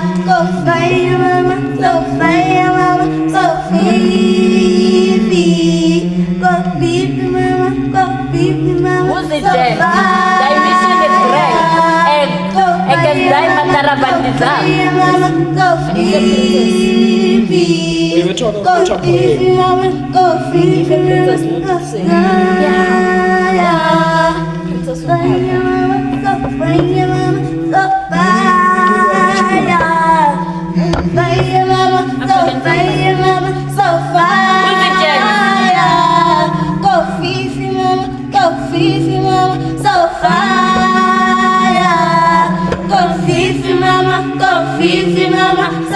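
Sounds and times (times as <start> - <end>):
a cappella group singing: 0.0 - 45.9.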